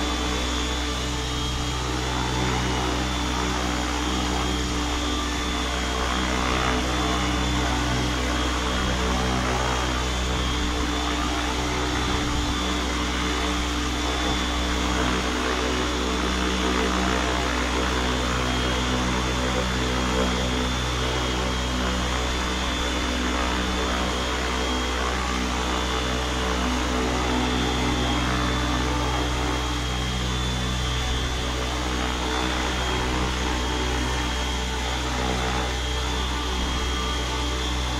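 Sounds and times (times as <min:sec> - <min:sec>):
motor and gear whine: 0:00.0 - 0:37.9.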